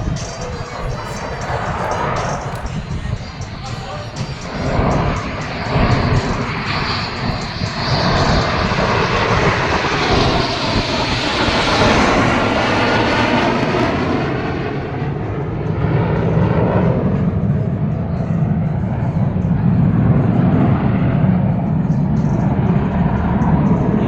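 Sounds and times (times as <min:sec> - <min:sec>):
aircraft engine flying past: 0:00.0 - 0:24.0.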